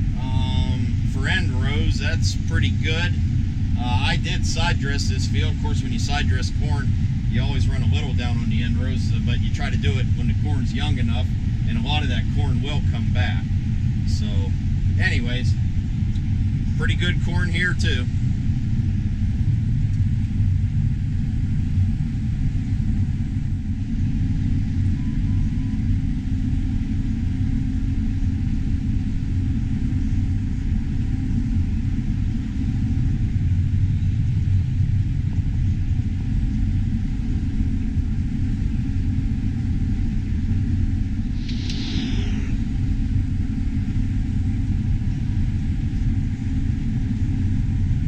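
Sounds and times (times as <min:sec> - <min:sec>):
combine engine and machinery rumble: 0:00.0 - 0:48.0.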